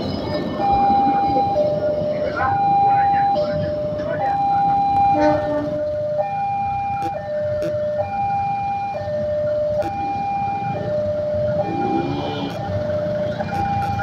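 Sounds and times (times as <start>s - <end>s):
low traffic rumble: 0.0s - 14.0s
two-tone crossing alarm: 0.0s - 14.0s.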